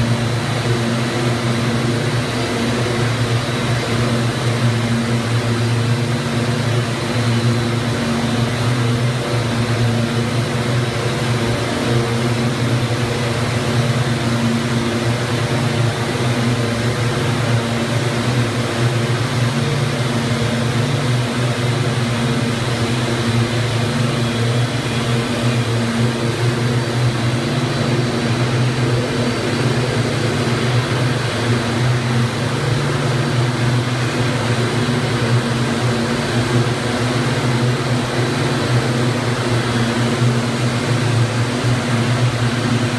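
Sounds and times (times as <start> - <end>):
yarn twisting machines humming: 0.0 - 42.9.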